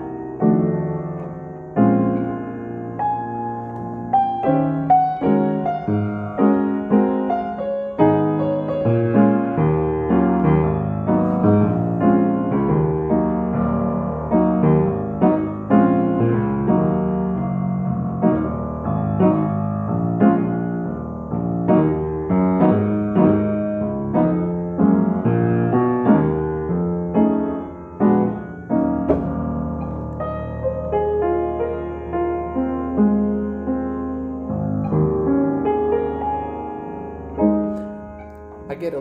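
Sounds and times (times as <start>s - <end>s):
upright piano playing: 0.0s - 39.0s.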